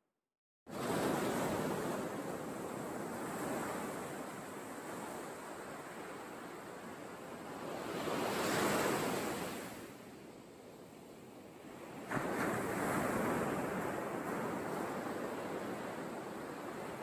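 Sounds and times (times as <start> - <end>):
surf washing onto beach: 0.7 - 10.0, 11.8 - 17.0.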